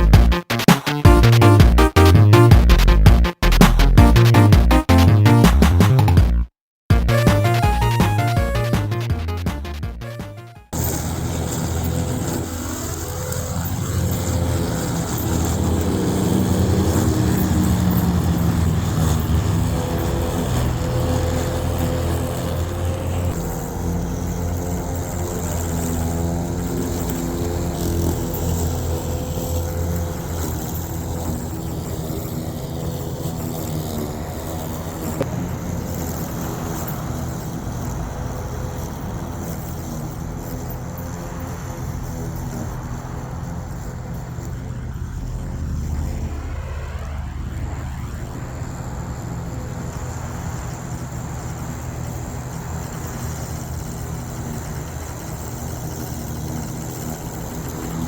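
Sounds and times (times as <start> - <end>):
electric lawnmower motor hum: 0.0 - 5.9, 6.9 - 58.0.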